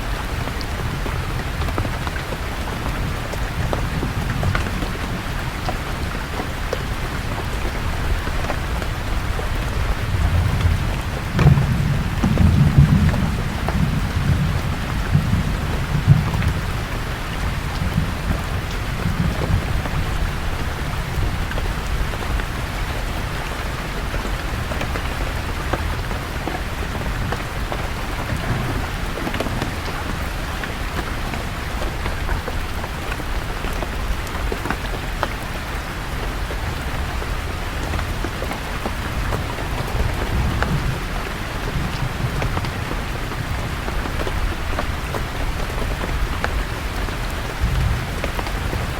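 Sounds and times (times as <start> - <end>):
distant thunder rumbling: 0.0 - 22.2, 25.2 - 34.6, 38.0 - 48.9
rain falling on leaves: 0.0 - 48.9.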